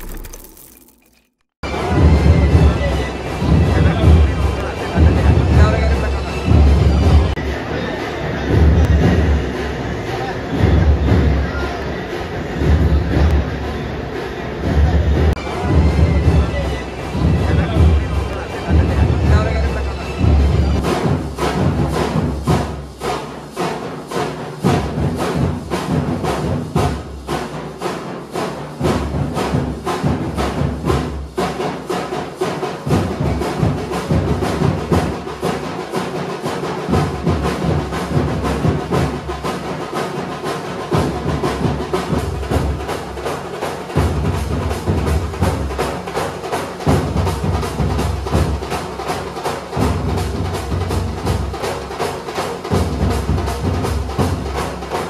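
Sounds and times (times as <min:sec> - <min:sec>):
drums beaten fast with sticks: 0:01.6 - 0:55.0.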